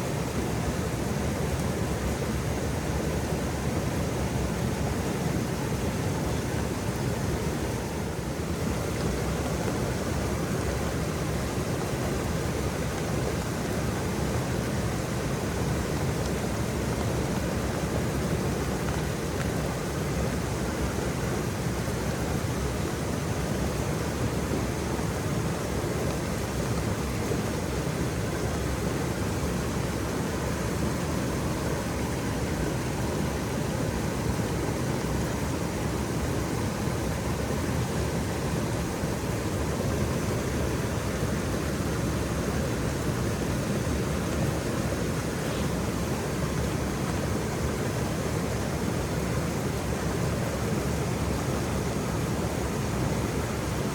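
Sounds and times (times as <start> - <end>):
waterfall pouring and splashing: 0.0 - 53.9.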